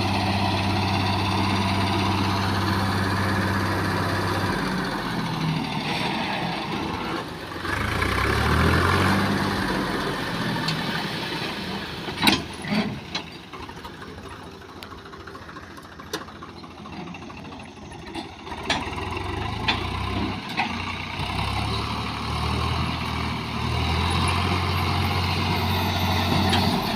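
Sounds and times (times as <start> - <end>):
heavy diesel engine revving: 0.0 - 13.1, 17.2 - 26.9.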